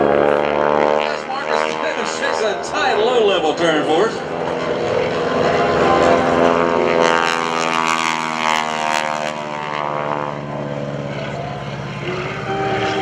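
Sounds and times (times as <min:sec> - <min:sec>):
biplane radial engine drone: 0:00.0 - 0:13.0.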